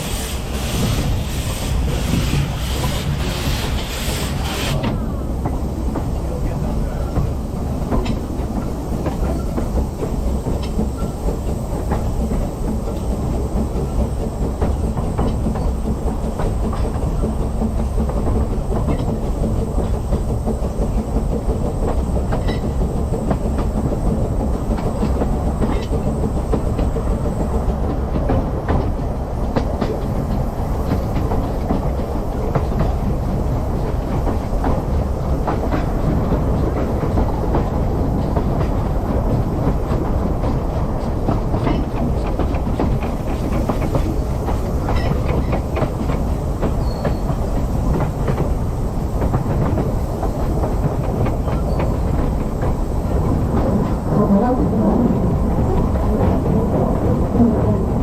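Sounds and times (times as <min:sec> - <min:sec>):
steam train rumble: 0:00.0 - 0:58.0
wheels clicking on rail joints: 0:00.0 - 0:58.0.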